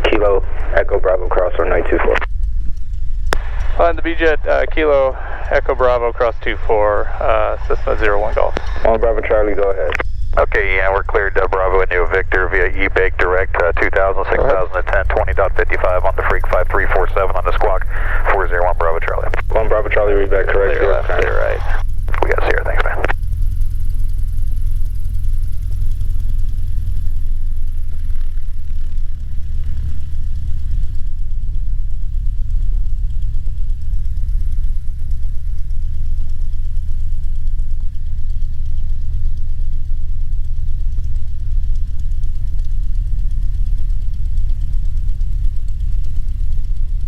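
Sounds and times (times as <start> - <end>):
airplane engine droning: 0.0 - 47.0.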